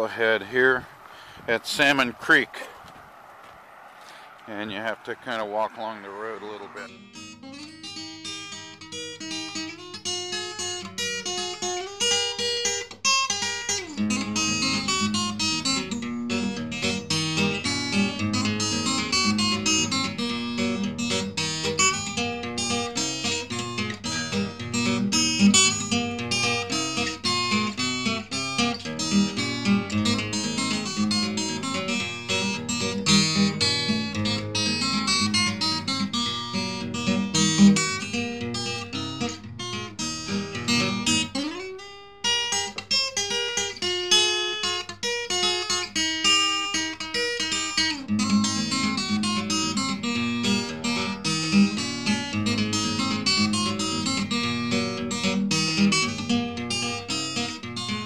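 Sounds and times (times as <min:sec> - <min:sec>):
fingerpicked acoustic guitar: 0:05.8 - 0:58.0.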